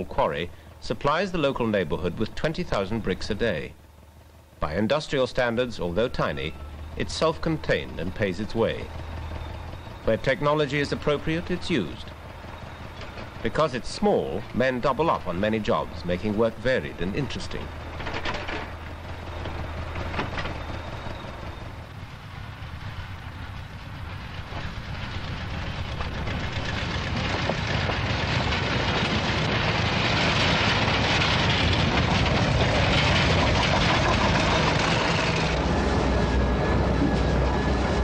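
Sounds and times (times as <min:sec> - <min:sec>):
heavy industrial machinery running: 0:00.5 - 0:38.0.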